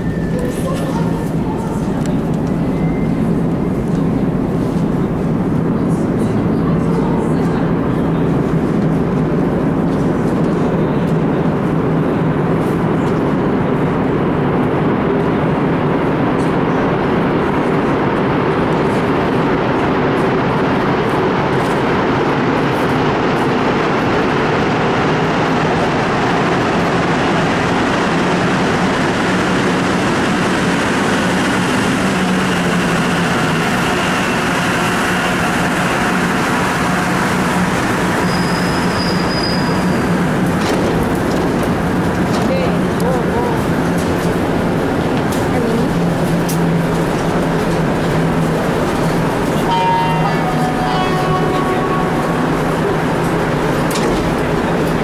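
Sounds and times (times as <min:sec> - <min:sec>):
steady loud rumble: 0:00.0 - 0:55.0
subway train approaching: 0:00.0 - 0:55.0.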